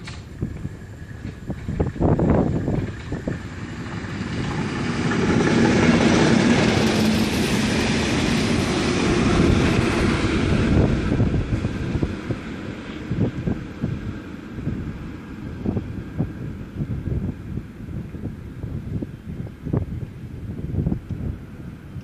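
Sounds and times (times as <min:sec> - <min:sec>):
locomotive low hum: 0:00.0 - 0:22.0
train wheels rushing on rails: 0:00.0 - 0:22.0.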